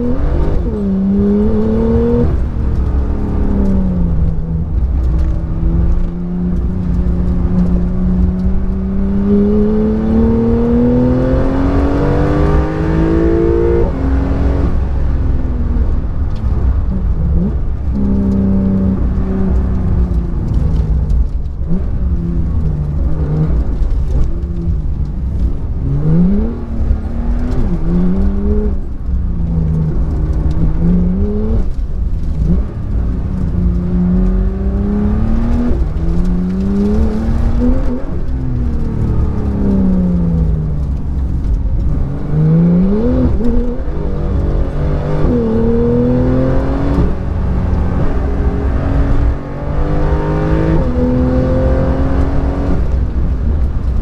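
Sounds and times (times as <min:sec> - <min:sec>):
car engine revving: 0:00.0 - 0:54.0
low road rumble: 0:00.0 - 0:54.0.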